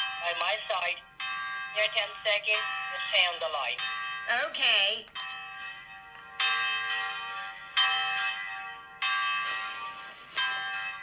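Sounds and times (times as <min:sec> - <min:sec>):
bell-like chime over phone: 0:00.0 - 0:11.0.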